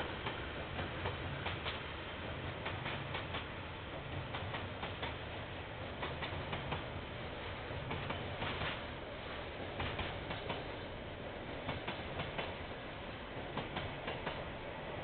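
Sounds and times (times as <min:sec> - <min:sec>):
train low rumble: 0:00.0 - 0:15.0
train wheels clicking over rail joints: 0:00.0 - 0:15.0.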